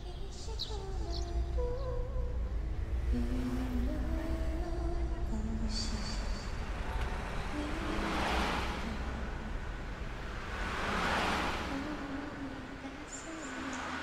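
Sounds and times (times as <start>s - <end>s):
low traffic rumble: 0.0s - 14.0s
vehicles passing: 0.0s - 14.0s.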